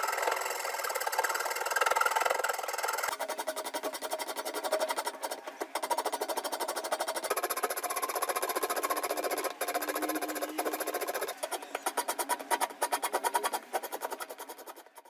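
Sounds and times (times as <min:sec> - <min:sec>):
steel rasp scraping wood: 0:00.0 - 0:15.0.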